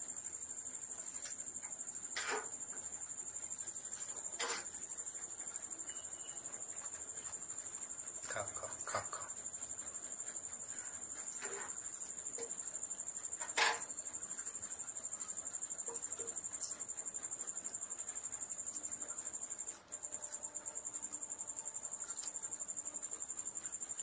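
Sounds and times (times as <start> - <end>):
cricket chirping trill: 0.0 - 24.0.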